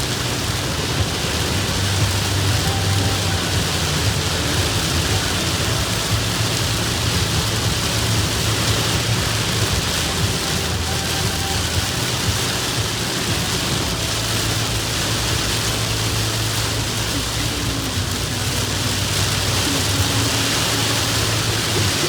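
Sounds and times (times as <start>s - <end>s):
heavy rain downpour: 0.0s - 22.0s.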